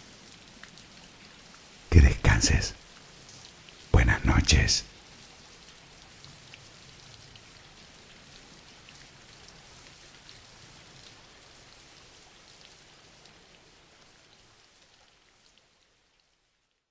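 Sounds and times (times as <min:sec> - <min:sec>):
soft rain hiss: 0:00.0 - 0:16.9.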